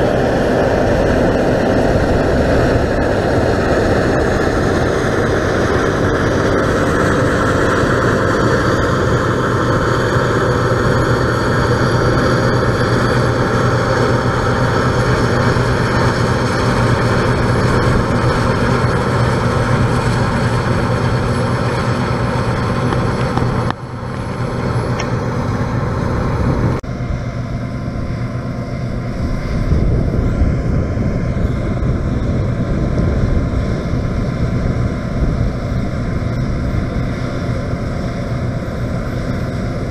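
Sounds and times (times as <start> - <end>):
combine harvester running: 0.0 - 39.9
low hum: 0.0 - 39.9.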